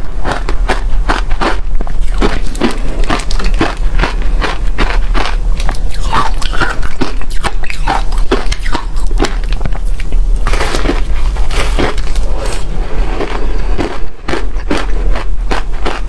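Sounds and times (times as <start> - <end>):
steady low hum: 0.0 - 16.0
ice being crunched and chewed: 0.2 - 16.0.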